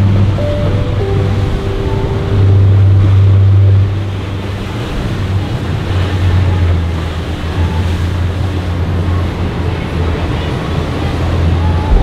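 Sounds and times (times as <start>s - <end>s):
boat engines droning: 0.0s - 12.0s
spray and waves rushing: 0.0s - 12.0s.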